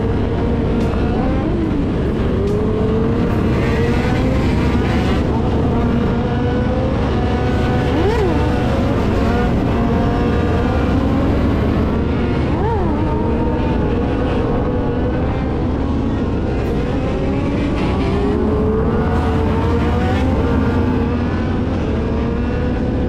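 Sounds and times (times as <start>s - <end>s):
motorcycle engines running: 0.0s - 23.0s.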